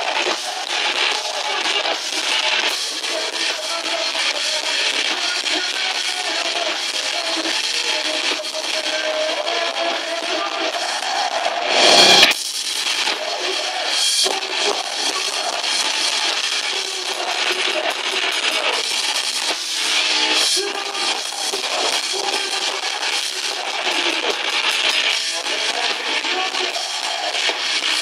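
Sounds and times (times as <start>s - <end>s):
distorted electric guitars: 0.0s - 28.0s
drum kit: 0.0s - 28.0s.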